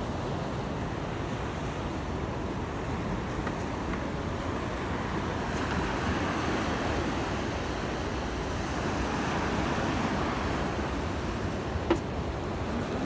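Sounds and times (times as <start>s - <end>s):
surf on a sandy beach: 0.0s - 13.0s.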